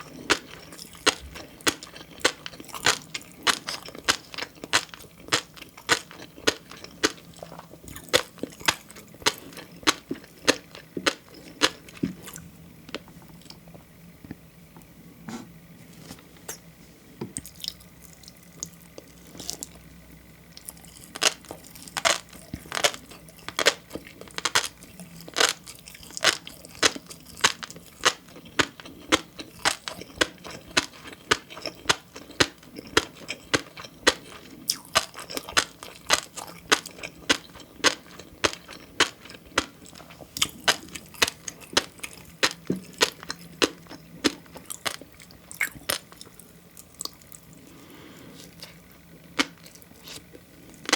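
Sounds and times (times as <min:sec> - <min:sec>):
wet crunchy eating sounds: 0:00.0 - 0:13.7, 0:17.4 - 0:50.9.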